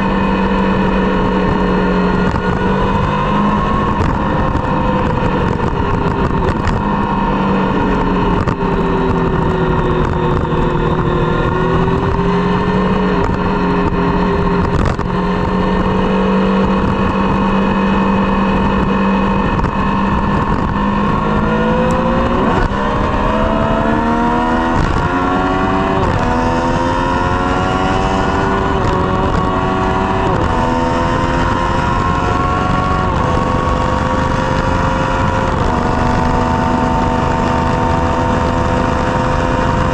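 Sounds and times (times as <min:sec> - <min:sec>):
motorcycle engine revving: 0:00.0 - 0:39.9
motorcycle gear shifts: 0:00.0 - 0:39.9.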